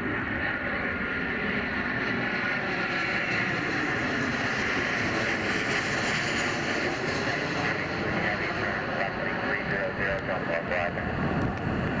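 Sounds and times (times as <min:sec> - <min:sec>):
jet airliner passing overhead: 0:00.0 - 0:12.0
turbofan engine rush with whine: 0:00.0 - 0:12.0.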